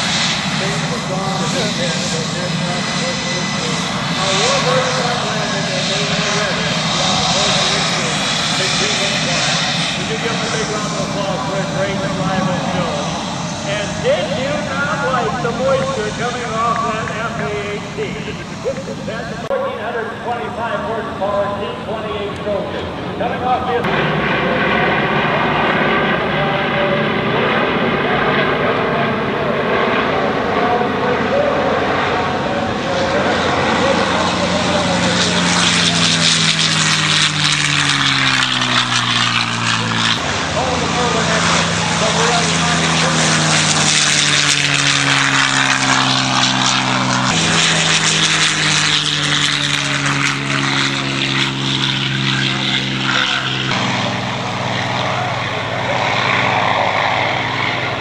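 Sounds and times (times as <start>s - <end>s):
helicopter flying by: 0.0s - 58.0s
propeller plane engine drone: 0.0s - 58.0s.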